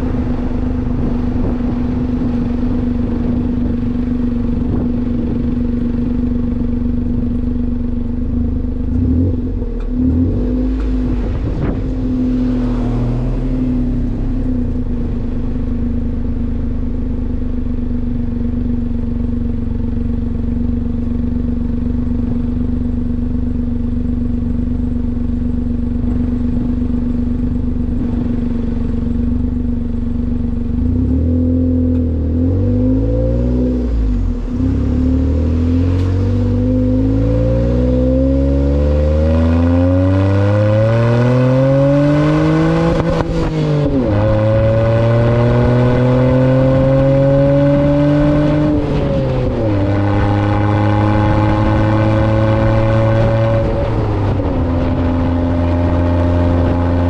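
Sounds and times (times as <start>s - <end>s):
truck engine accelerating through gears: 0.0s - 57.0s.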